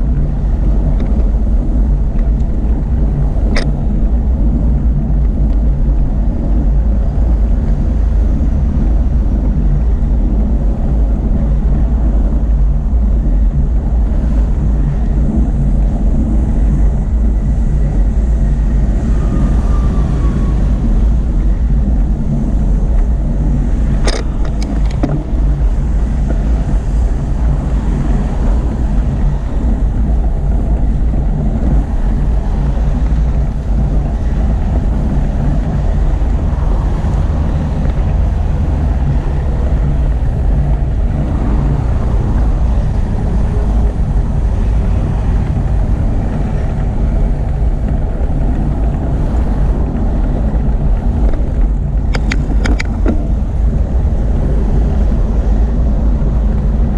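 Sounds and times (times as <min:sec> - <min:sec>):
road traffic: 0:00.0 - 0:56.9
wind on microphone: 0:00.0 - 0:56.9.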